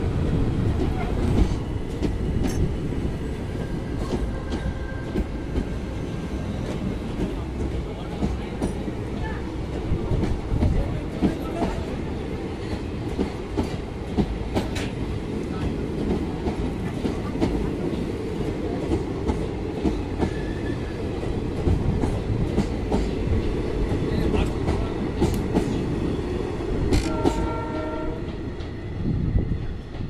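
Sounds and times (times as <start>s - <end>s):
train rumble: 0.0s - 30.0s
train wheels clacking: 0.7s - 26.1s, 26.8s - 28.8s.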